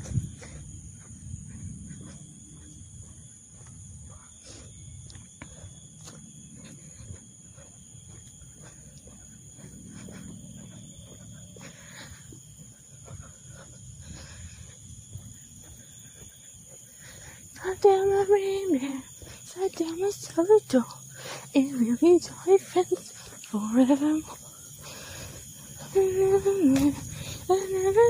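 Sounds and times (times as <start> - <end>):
wind rumbling on microphone: 0.0 - 19.5, 23.1 - 28.0
footsteps on outdoor path: 0.0 - 28.0
insects buzzing: 0.0 - 28.0.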